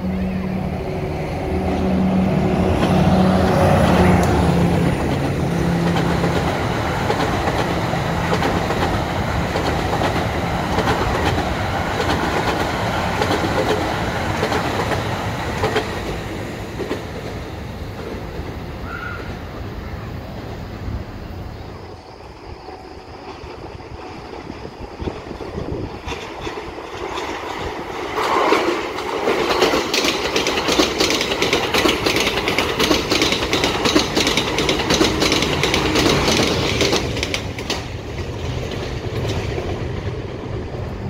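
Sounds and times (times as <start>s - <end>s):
train passing rumble: 0.0s - 41.0s
wheels clicking over rail joints: 2.6s - 18.5s, 23.2s - 41.0s.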